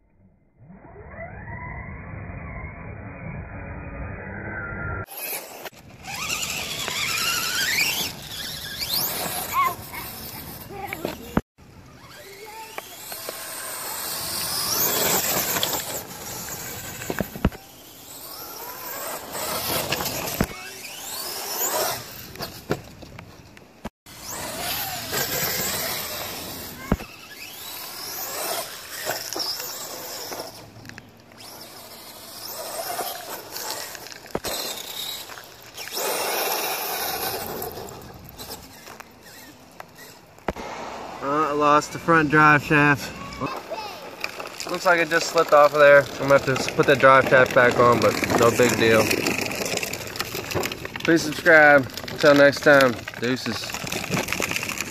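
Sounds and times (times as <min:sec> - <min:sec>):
electric motor whining: 0:05.0 - 0:22.8, 0:24.1 - 0:54.9
tyre noise on wet pavement: 0:05.1 - 0:54.9.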